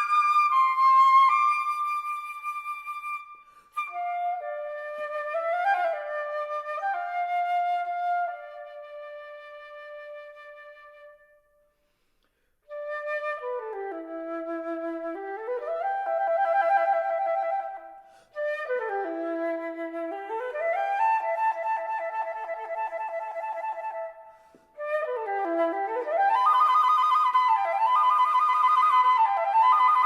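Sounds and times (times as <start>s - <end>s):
solo flute playing: 0.0s - 11.7s, 12.6s - 30.0s.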